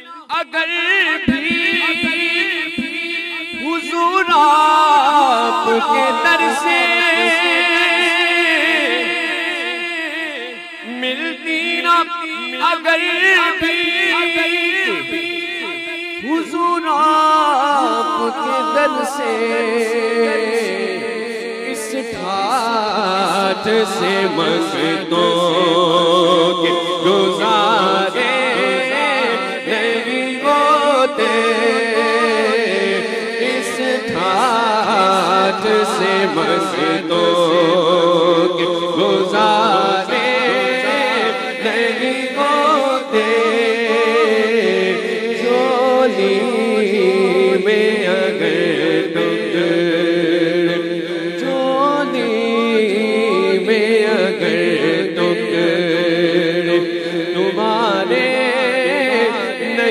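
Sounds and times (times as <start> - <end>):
male voices singing: 0.0 - 59.9
man singing unaccompanied: 0.0 - 59.9.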